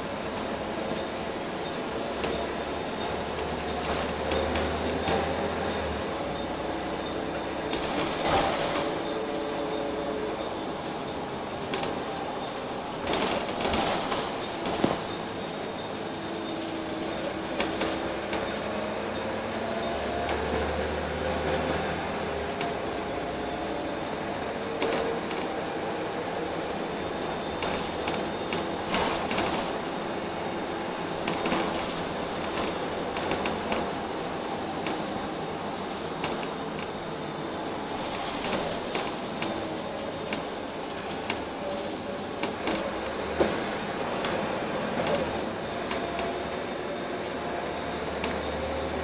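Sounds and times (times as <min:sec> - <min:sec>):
bus engine and road noise: 0:00.0 - 0:49.0.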